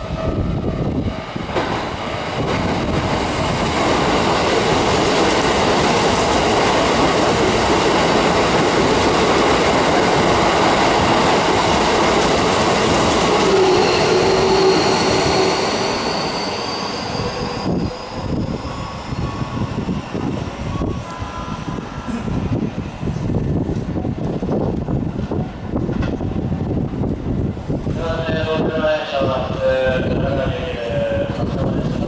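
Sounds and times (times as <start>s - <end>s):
train wheels rushing on rails: 0.0s - 32.0s.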